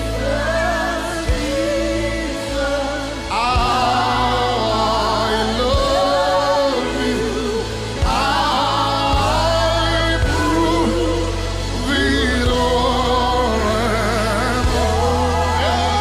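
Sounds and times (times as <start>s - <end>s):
bass and keyboard notes: 0.0s - 16.0s
person singing gospel with vibrato: 0.0s - 16.0s.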